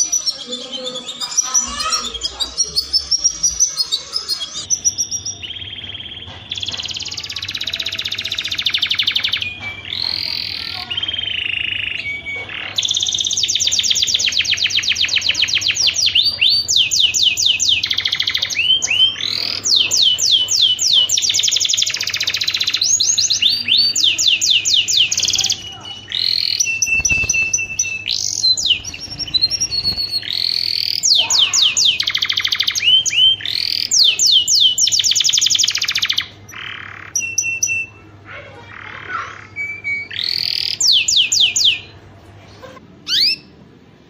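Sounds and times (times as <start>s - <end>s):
canary singing trills: 0.0s - 42.0s, 43.0s - 43.6s.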